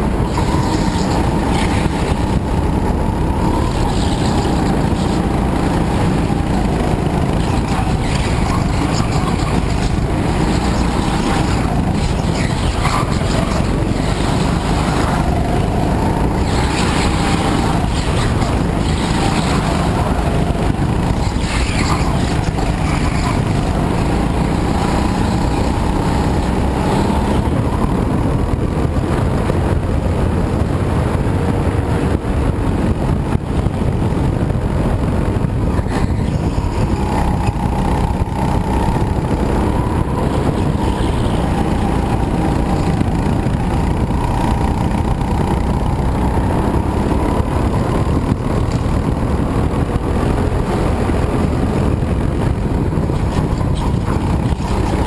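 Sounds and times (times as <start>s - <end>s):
go-kart engine racing: 0.0s - 55.0s
heavy rumble: 0.0s - 55.0s.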